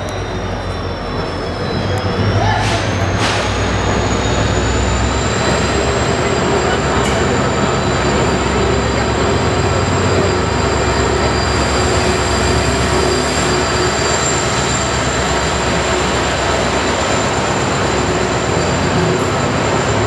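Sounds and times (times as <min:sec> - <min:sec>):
diesel locomotive passing: 0:00.0 - 0:20.0
train coaches rolling past: 0:00.0 - 0:20.0.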